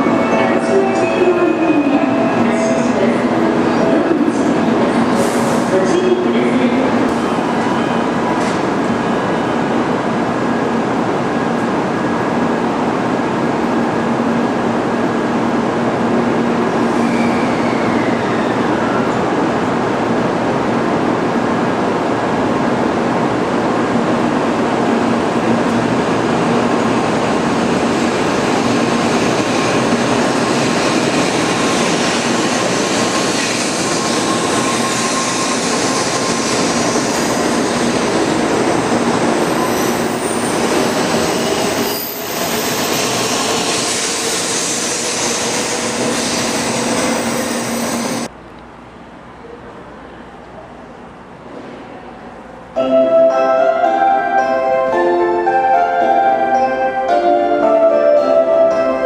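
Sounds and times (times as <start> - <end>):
high-speed train rumble and rush: 0.0 - 52.8.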